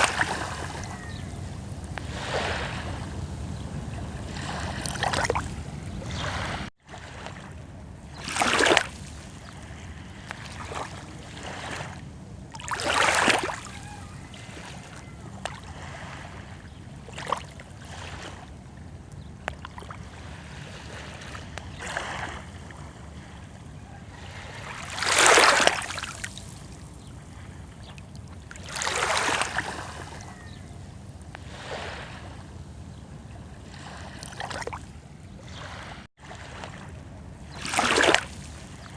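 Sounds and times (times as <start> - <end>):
low wash of water: 0.0 - 38.9
small waves splashing at shore: 0.0 - 38.9.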